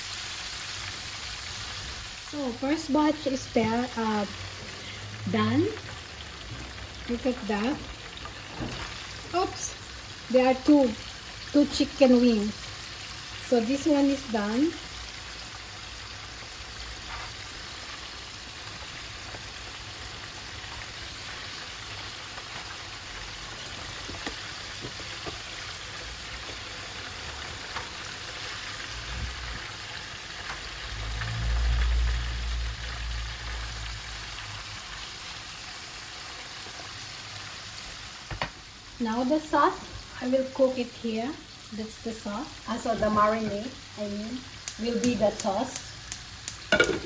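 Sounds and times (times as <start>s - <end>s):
hot oil sizzling and bubbling: 0.0s - 47.0s.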